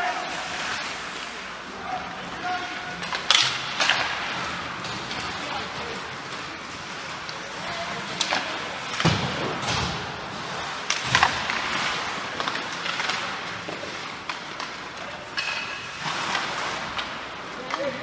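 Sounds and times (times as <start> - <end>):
hockey sticks and puck knocking: 2.9 - 18.0.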